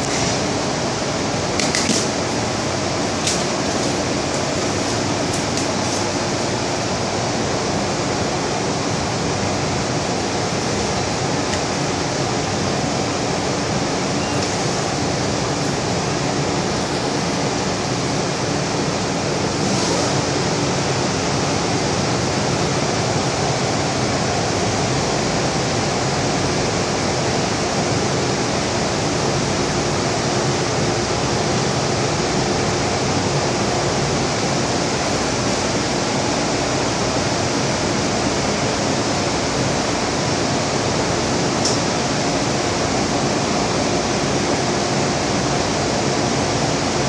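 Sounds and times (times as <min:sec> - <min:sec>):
train wheels roaring on rail: 0:00.0 - 0:46.9.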